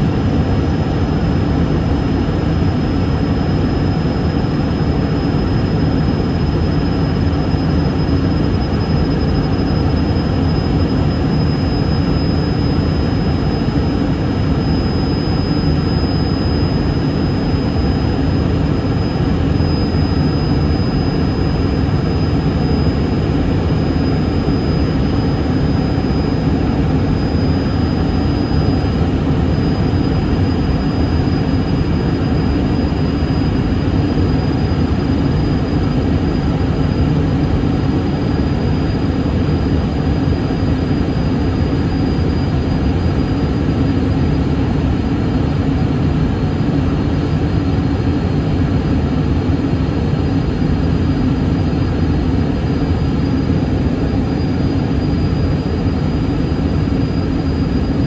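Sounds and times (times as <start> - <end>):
faint high whine: 0.0 - 58.0
jet engine cabin rumble: 0.0 - 58.0.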